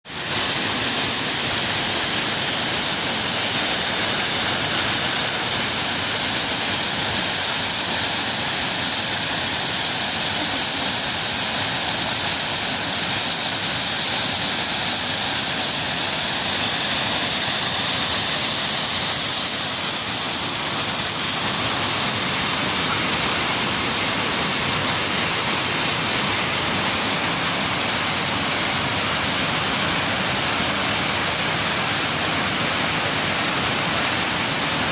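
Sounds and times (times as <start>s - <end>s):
rushing water roar: 0.1s - 34.9s.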